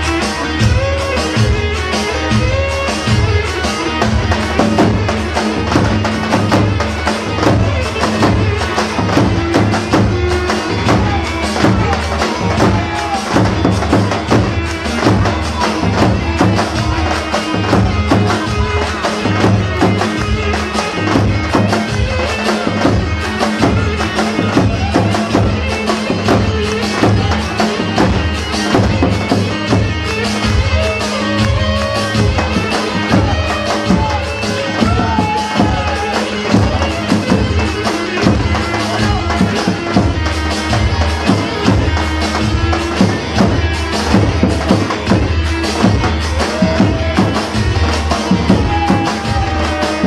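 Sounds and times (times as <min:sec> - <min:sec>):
drum and tambourine beat: 0:00.0 - 0:50.0
traditional dance music: 0:00.0 - 0:50.0.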